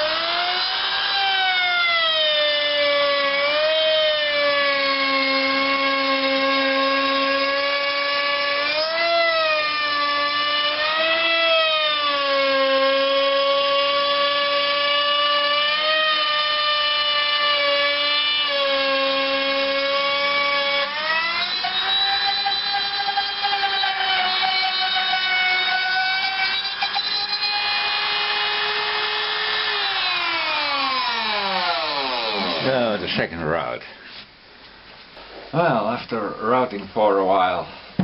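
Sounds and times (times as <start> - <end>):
electric router whining: 0.0 - 33.0.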